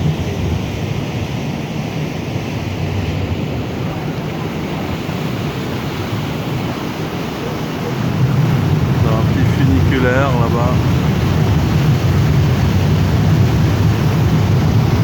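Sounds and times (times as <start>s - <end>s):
boat engine rumble: 0.0s - 15.0s
wind rushing over microphone: 0.0s - 15.0s.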